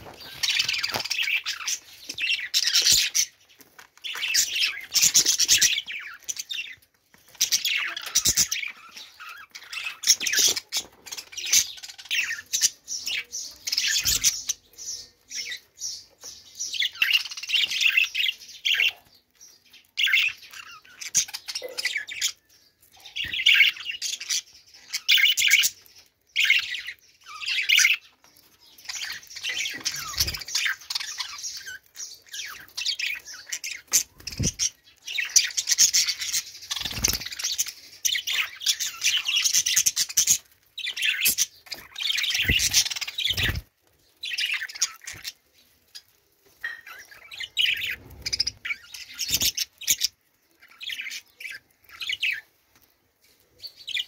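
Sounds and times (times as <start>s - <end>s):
budgerigars chattering and chirping: 0.0s - 52.5s.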